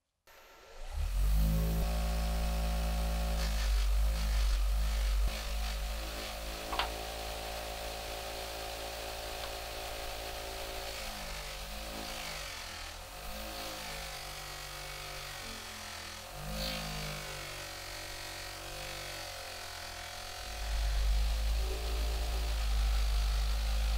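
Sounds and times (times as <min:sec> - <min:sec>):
bench grinder buffing wheel running: 0:00.3 - 0:23.9.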